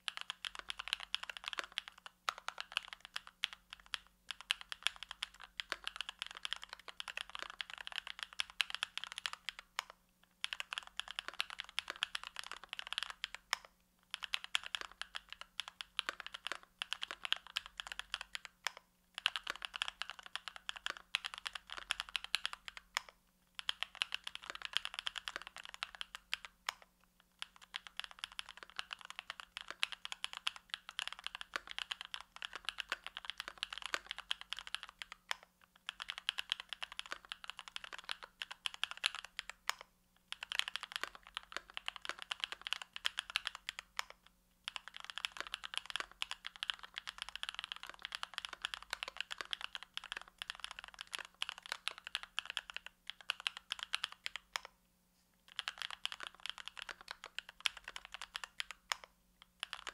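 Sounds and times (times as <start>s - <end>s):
typing on mechanical keyboard: 0.0s - 54.7s, 55.5s - 59.9s.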